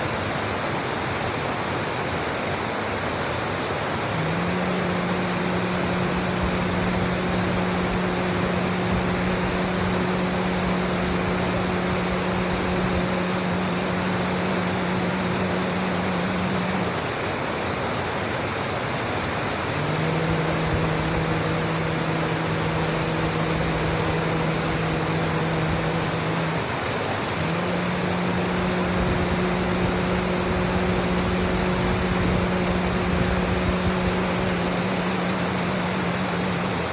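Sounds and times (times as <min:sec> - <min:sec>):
steady rushing noise: 0:00.0 - 0:36.9
person toning a low note: 0:04.1 - 0:17.0, 0:19.6 - 0:36.9.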